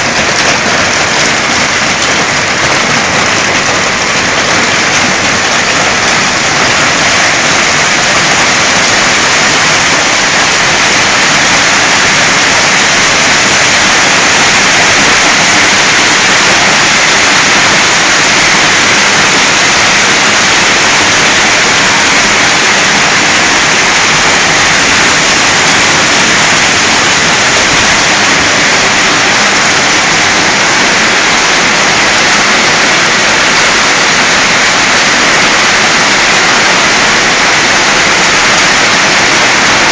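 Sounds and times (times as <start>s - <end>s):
hailstones falling heavily: 0.0s - 39.9s.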